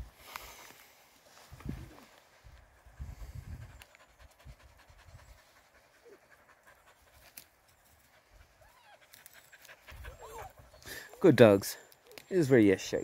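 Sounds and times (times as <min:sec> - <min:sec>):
puppies panting: 0:02.2 - 0:13.0.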